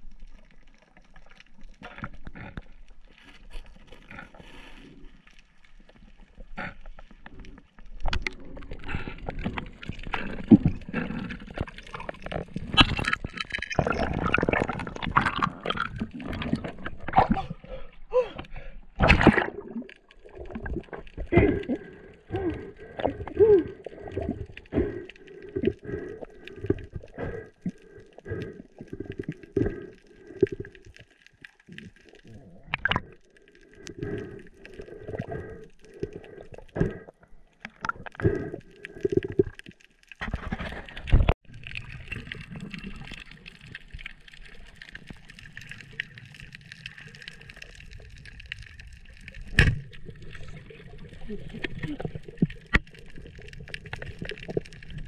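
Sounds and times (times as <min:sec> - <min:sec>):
underwater gurgling: 0:00.0 - 0:55.0.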